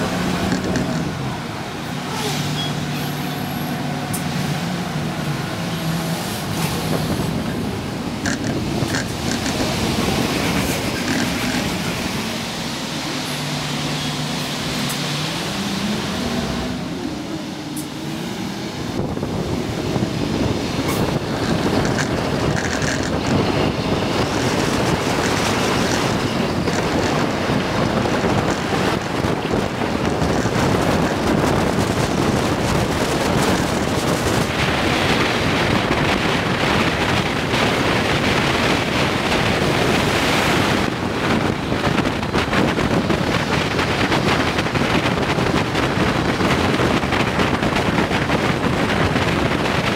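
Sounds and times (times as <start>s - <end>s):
tyre and wind rush: 0.0s - 49.9s.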